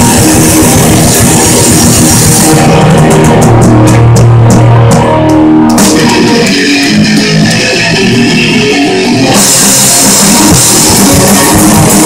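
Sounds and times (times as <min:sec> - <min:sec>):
drum hits: 0:00.0 - 0:08.2, 0:09.4 - 0:12.0
distorted electric guitars: 0:00.0 - 0:12.0
live rock band playing: 0:00.0 - 0:12.0.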